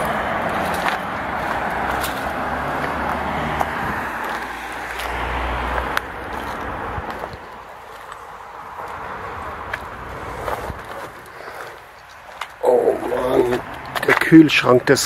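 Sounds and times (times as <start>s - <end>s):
passing vehicles: 0.0s - 15.0s.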